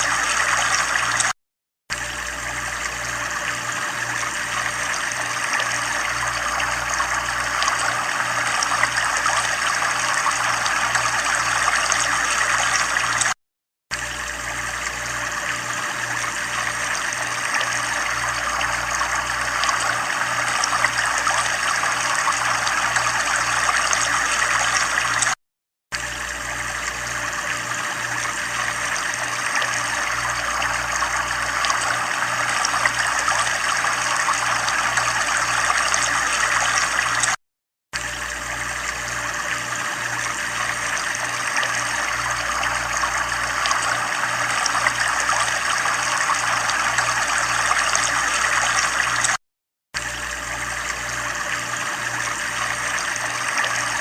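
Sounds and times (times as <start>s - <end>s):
running water: 0.0s - 25.4s, 26.0s - 37.4s, 38.0s - 49.4s, 50.0s - 54.0s.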